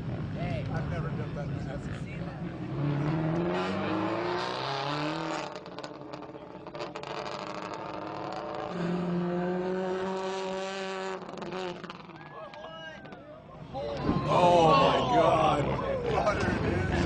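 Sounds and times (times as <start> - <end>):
rally car engine revving: 0.0 - 12.3, 14.4 - 17.0.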